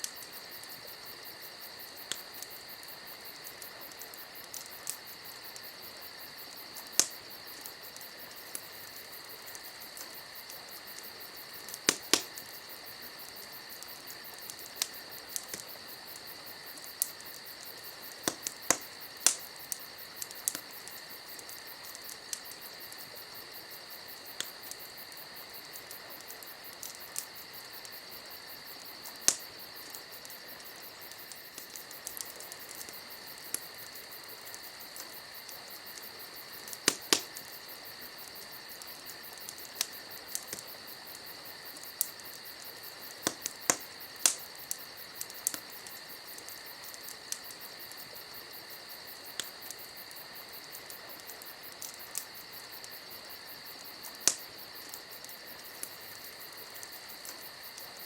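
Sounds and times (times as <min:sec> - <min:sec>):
campfire crackling and popping: 0:00.0 - 0:58.0
insects chirring: 0:00.0 - 0:58.0.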